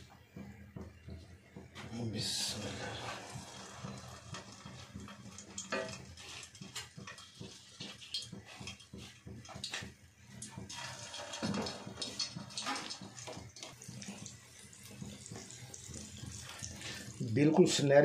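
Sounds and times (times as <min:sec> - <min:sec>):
food sizzling in hot fat: 0:02.1 - 0:17.9.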